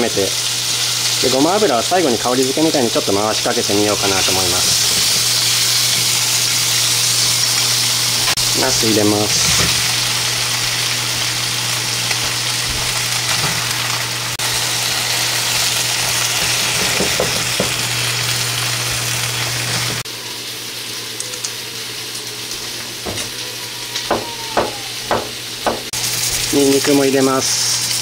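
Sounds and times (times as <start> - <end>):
eggplant sizzling in a frying pan: 0.0 - 28.0.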